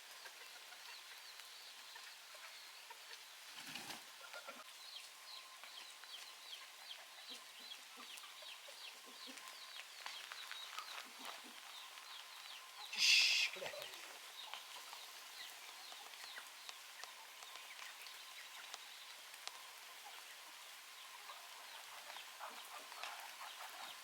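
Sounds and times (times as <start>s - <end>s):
chickens clucking: 0.0s - 24.0s
chickens cheeping: 0.1s - 24.0s.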